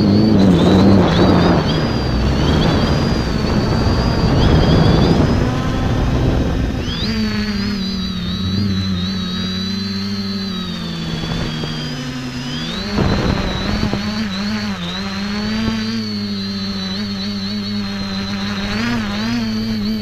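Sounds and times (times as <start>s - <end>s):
drone motors and propellers whining: 0.0s - 20.0s.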